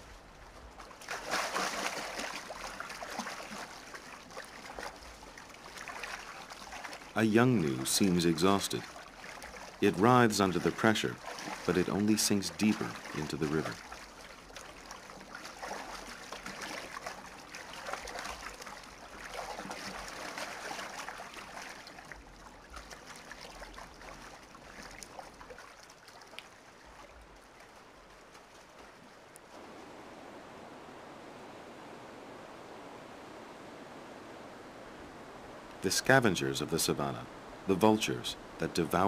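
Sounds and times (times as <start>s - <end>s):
fast-flowing river water splashing: 0.0s - 33.4s.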